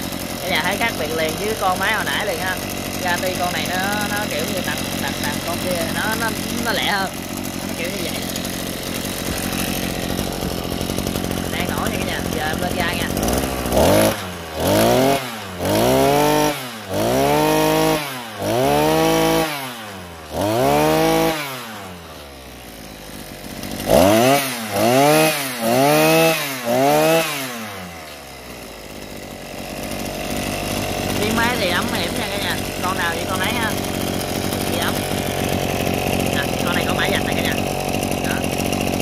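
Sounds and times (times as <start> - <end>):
two-stroke engine revving: 0.0 - 39.0.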